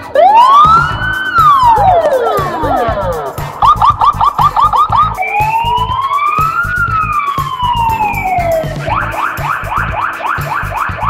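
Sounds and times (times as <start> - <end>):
background music beat: 0.0 - 11.0
electronic police siren: 0.0 - 11.0.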